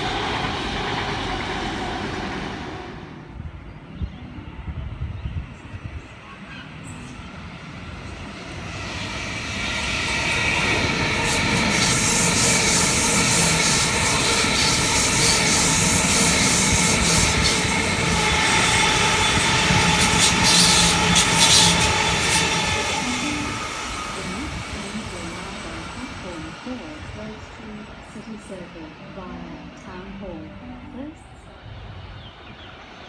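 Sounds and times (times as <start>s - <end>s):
train wheels rolling on rails: 0.0s - 3.3s, 6.1s - 30.9s.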